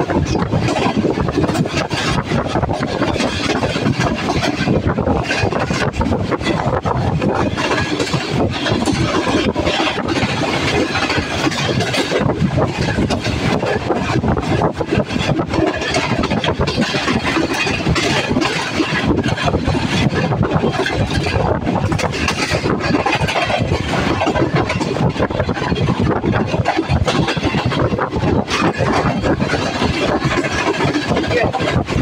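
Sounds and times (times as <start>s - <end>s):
rushing air: 0.0s - 32.0s
train wheels rumbling on rails: 0.0s - 32.0s.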